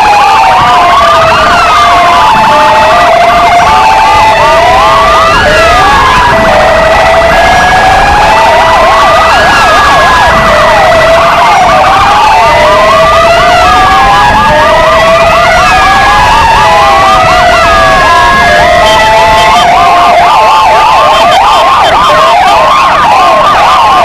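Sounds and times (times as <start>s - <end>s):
police sirens wailing and yelping: 0.0s - 24.0s.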